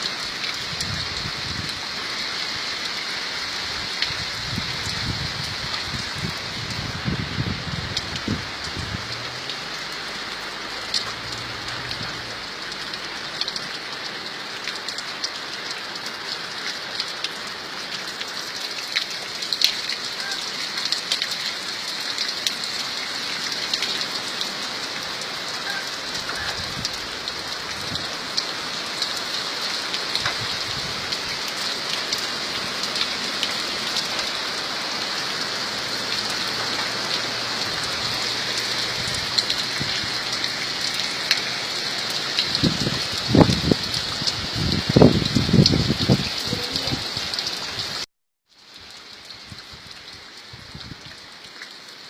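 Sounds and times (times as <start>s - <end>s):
raindrops ticking on surface: 0.0s - 52.0s
steady rain hiss: 0.0s - 52.0s.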